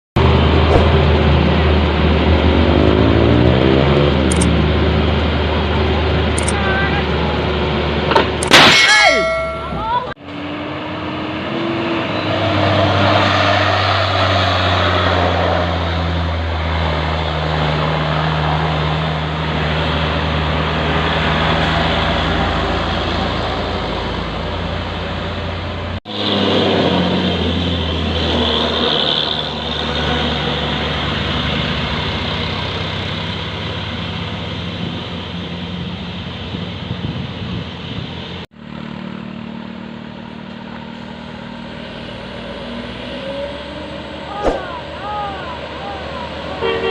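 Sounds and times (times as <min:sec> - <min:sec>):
diesel truck engine droning: 0:00.2 - 0:46.9.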